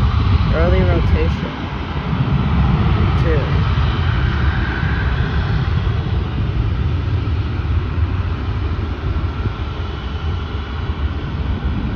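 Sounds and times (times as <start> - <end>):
jet engines roaring: 0.0 - 11.9.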